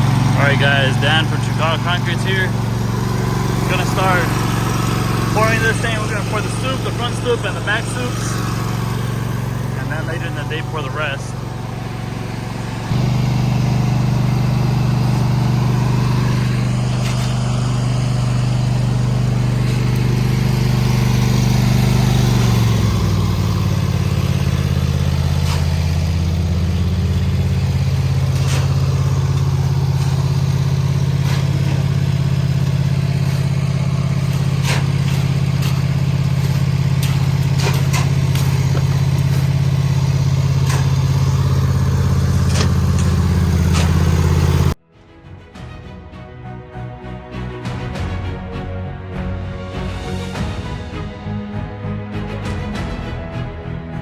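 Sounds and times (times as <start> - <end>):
large engine running: 0.0 - 44.8.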